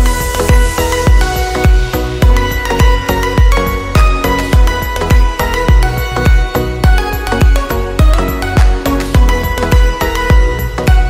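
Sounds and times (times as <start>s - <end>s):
deep drum beat: 0.0s - 11.0s.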